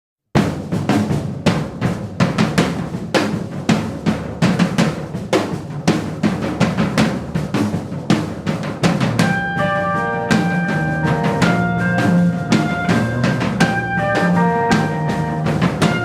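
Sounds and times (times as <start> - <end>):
snare and bass drum beat: 0.4 - 16.0.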